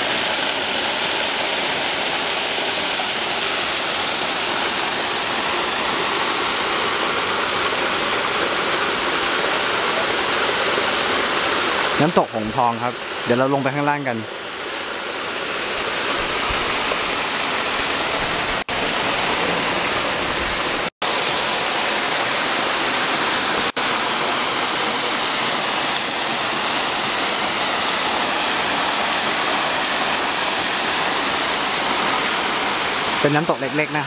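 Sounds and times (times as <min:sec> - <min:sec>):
waterfall rushing over boulders: 0:00.0 - 0:34.0.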